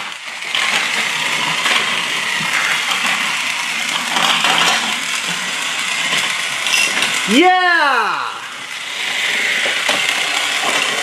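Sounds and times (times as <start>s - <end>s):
toy train motors whirring: 0.0s - 11.0s.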